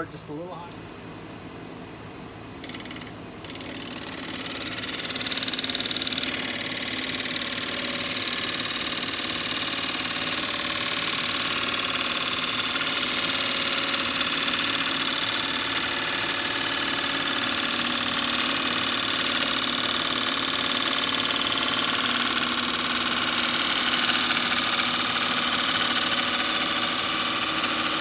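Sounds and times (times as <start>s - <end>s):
wood lathe humming: 2.6s - 28.0s
gouge cutting into spinning wood: 3.5s - 28.0s.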